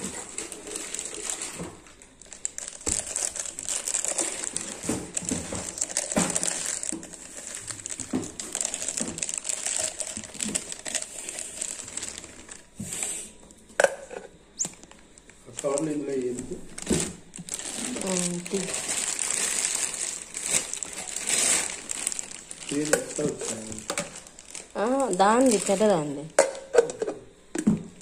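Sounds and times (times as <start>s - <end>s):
plastic bag crinkling: 0.0s - 13.1s, 14.7s - 26.4s.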